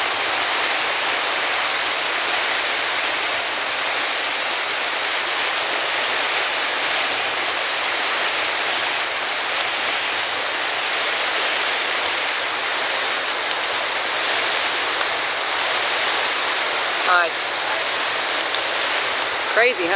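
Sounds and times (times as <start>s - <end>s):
river rushing: 0.0s - 19.9s.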